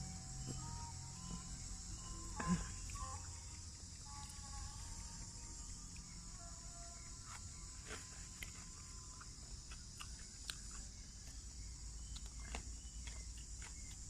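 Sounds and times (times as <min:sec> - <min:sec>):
insects buzzing: 0:00.0 - 0:14.0
insect clicks and chirps: 0:00.2 - 0:14.0.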